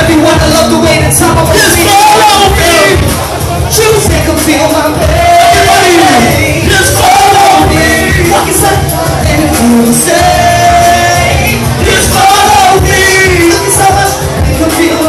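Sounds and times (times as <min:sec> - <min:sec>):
pounding beat: 0:00.0 - 0:15.0.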